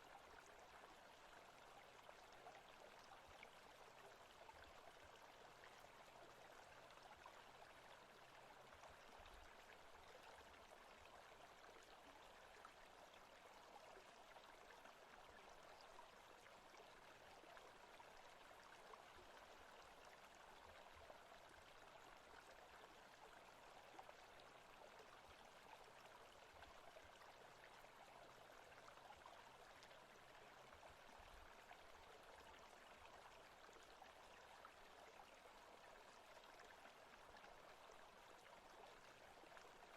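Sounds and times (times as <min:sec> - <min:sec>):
running stream water: 0:00.0 - 0:39.9.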